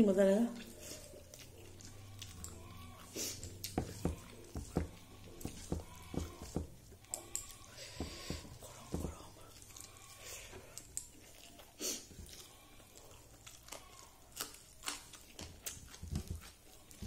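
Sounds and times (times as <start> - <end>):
person chewing and lip-smacking: 0.6 - 17.0.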